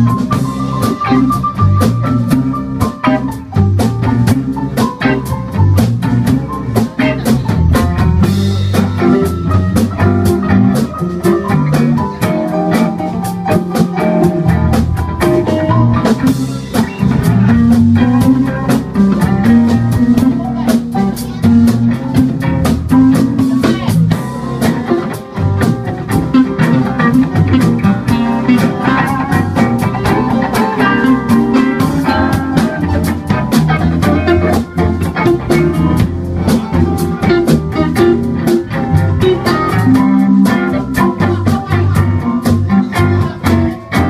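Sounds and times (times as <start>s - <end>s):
music with a steady beat: 0.0s - 44.0s.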